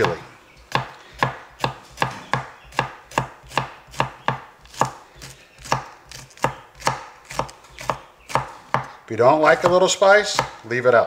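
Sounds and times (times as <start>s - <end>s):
knife chopping on wooden board: 0.0s - 9.7s, 10.3s - 10.6s.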